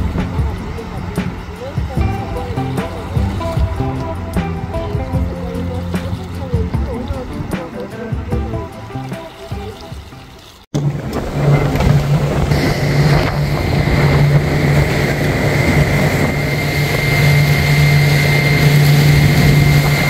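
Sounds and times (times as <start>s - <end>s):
outboard motor running: 0.0s - 10.0s, 10.7s - 20.0s
wind and water rushing: 0.0s - 20.0s.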